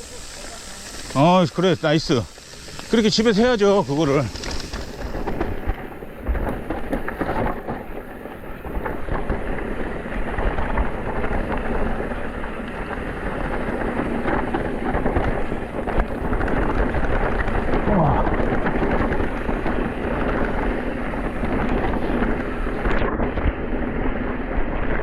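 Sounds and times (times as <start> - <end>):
bike rolling rumble: 0.0 - 25.0
tyres crackling on gravel: 0.0 - 25.0.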